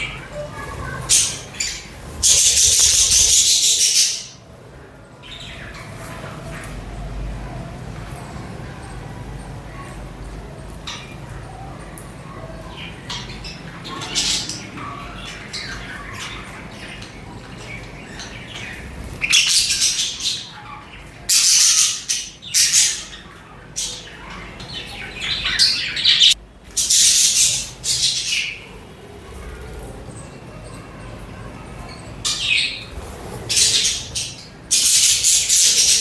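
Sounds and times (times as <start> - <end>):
budgies chirping and chattering: 0.0 - 36.0.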